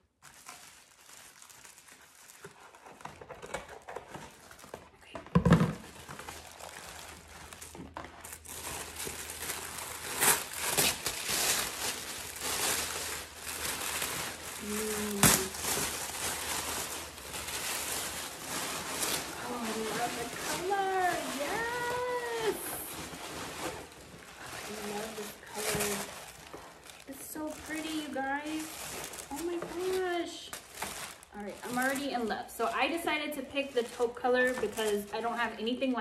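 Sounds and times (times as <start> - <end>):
plastic and tissue paper crinkling: 0.0 - 36.0.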